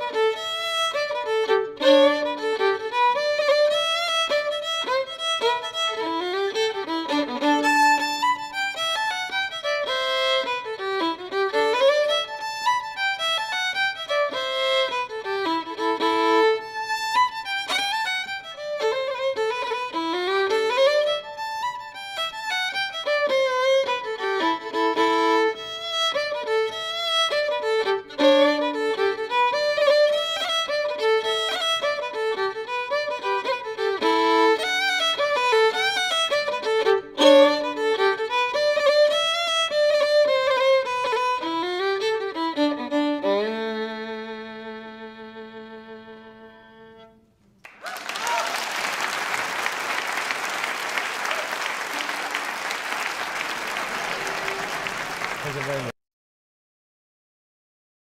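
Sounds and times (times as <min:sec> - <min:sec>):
fiddle playing lively tune: 0:00.0 - 0:47.3, 0:49.3 - 0:55.9.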